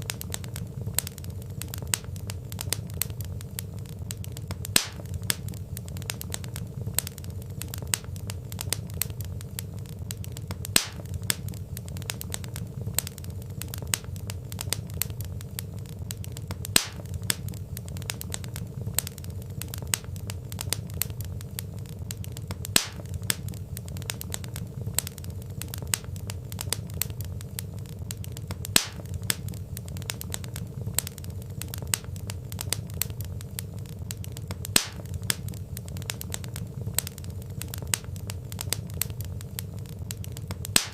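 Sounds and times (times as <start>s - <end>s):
fire popping: 0.0s - 40.9s
low rumble of burning logs: 0.0s - 40.9s
wood fire crackling: 0.0s - 40.9s.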